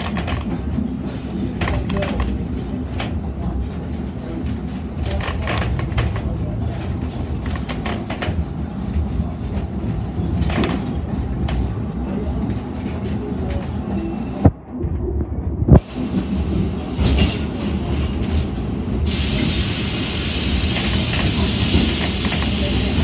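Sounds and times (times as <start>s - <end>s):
railway carriage rumbling: 0.0s - 23.0s.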